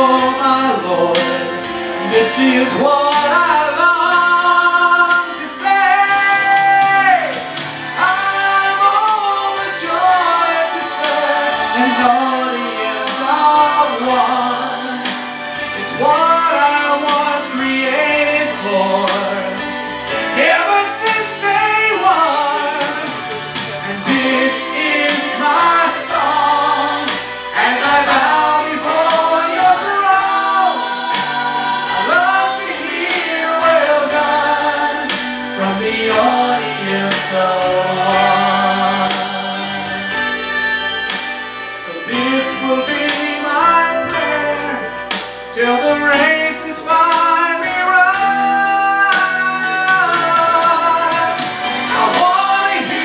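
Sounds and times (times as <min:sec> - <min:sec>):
man singing into microphone: 0:00.0 - 0:31.0, 0:31.9 - 0:40.1, 0:41.8 - 0:53.0
instrumental accompaniment: 0:00.0 - 0:53.0.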